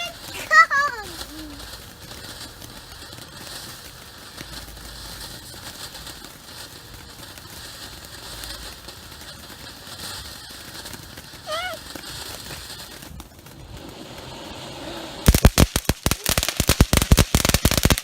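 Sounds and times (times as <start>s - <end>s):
firework fountain hissing and crackling: 0.0s - 18.0s.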